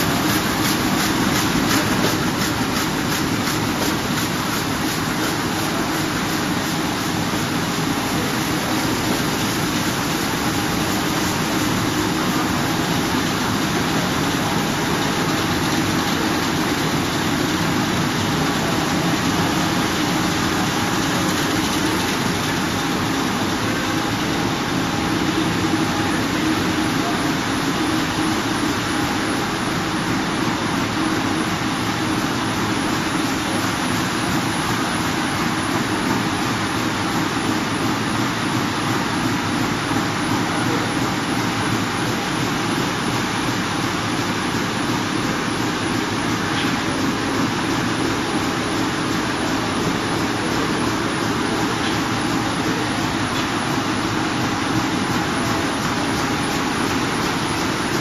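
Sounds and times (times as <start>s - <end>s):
printing press running: 0.0s - 58.0s.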